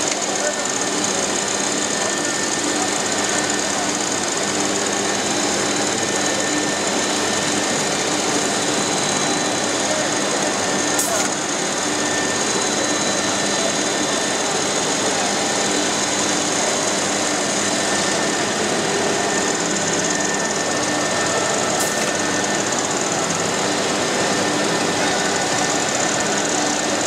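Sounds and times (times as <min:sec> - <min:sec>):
machine running with whine: 0:00.0 - 0:27.0.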